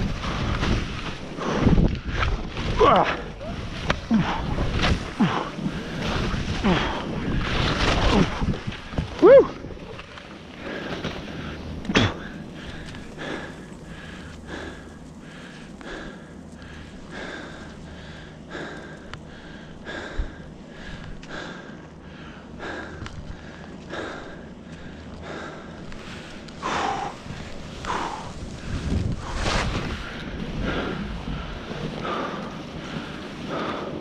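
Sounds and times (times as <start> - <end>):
heavy rhythmic breathing: 0.0 - 9.2, 9.8 - 34.0
skis scraping through snow: 0.0 - 19.0, 24.3 - 34.0.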